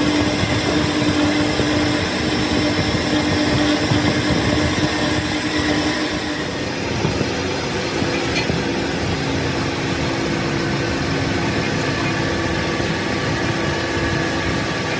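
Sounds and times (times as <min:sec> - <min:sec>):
dense rushing noise: 0:00.0 - 0:14.9
lathe machine hum: 0:00.0 - 0:14.9.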